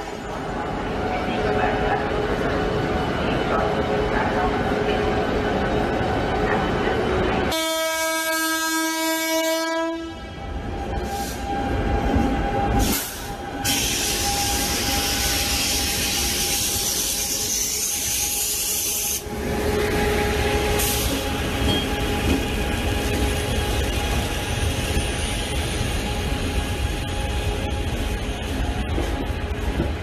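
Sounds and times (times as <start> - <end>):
train rumbling and hissing: 0.0 - 30.0.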